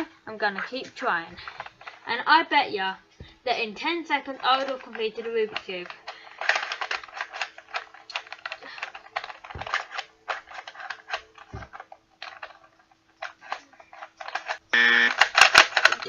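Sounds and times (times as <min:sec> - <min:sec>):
puzzle cube plastic clicks: 0:00.5 - 0:02.1, 0:04.1 - 0:16.0.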